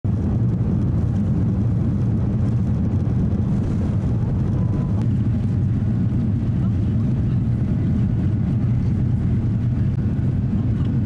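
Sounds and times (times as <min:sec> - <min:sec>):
airplane cabin rumble while taxiing: 0:00.1 - 0:11.0.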